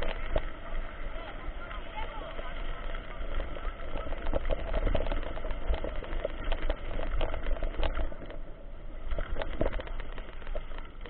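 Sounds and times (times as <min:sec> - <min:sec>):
bike rattling on rough trail: 0:00.0 - 0:11.0.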